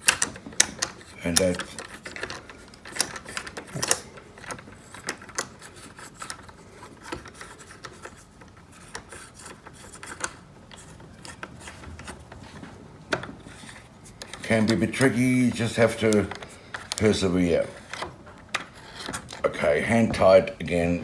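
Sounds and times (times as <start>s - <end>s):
drill chuck metal clicks and scraping: 0.0s - 19.5s.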